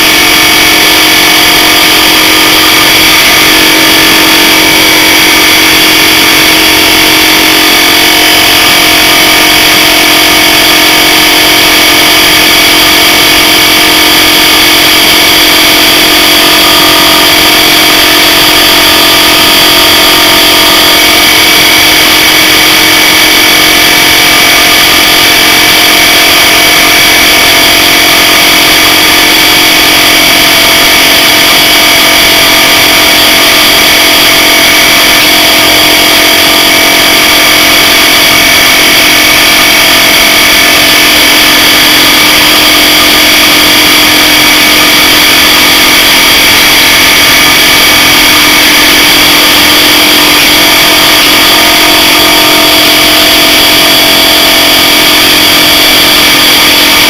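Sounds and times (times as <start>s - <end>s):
compressor running dry: 0.0s - 57.0s.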